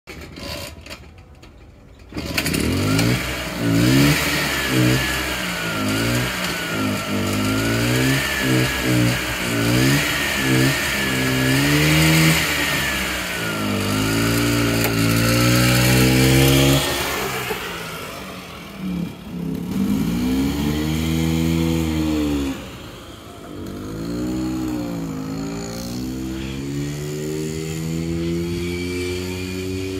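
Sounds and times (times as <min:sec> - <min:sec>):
motorbike engine revving: 0:00.1 - 0:01.2, 0:02.0 - 0:29.9.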